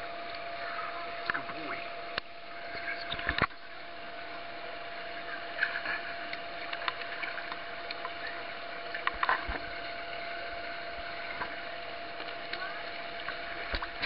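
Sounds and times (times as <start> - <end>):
thin steady hum: 0.0 - 14.0.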